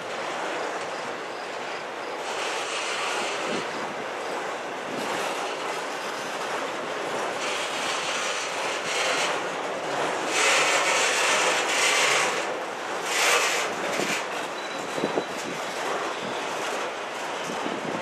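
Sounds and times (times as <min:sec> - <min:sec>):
steel wheels on rails: 0:00.0 - 0:18.0.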